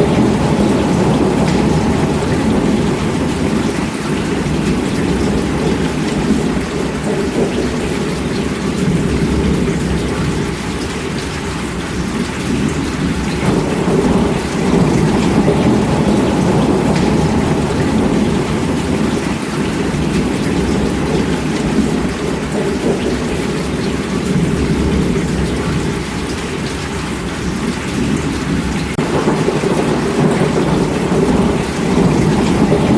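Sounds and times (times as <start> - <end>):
rolling thunder: 0.0 - 26.5, 27.4 - 32.9
heavy rain: 0.0 - 32.9.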